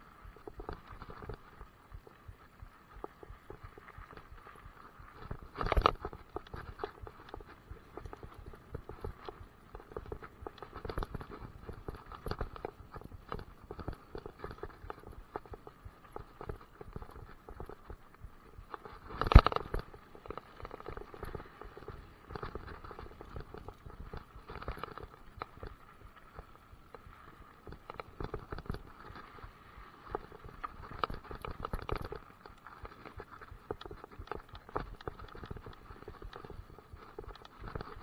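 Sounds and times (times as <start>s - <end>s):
bike rattling over gravel: 0.0s - 38.0s.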